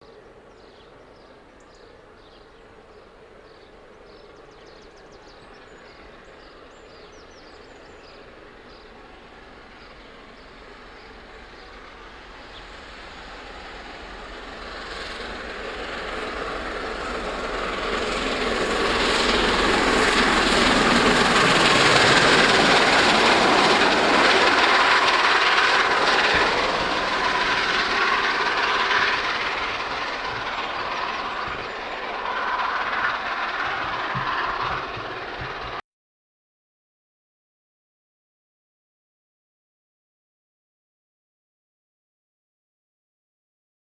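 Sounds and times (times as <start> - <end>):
steam locomotive passing: 0.1 - 35.8.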